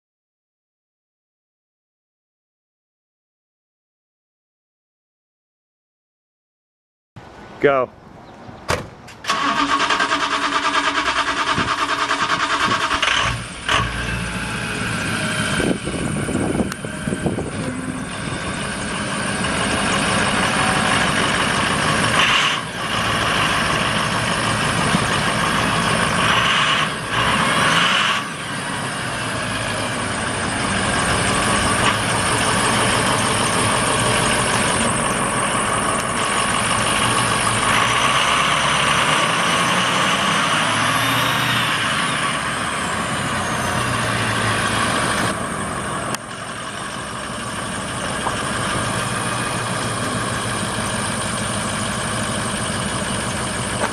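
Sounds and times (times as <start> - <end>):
truck diesel engine running: 9.2 - 53.9.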